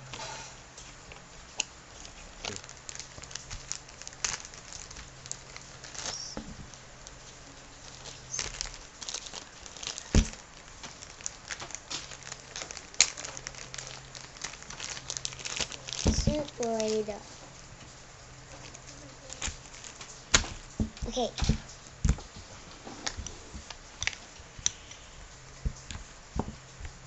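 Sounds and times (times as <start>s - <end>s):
packaging rustling and crinkling: 0.0s - 27.0s.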